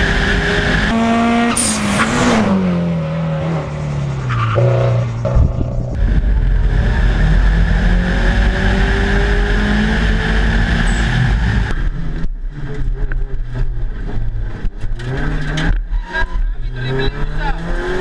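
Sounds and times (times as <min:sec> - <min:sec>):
car engine at racing speed: 0:00.0 - 0:18.0.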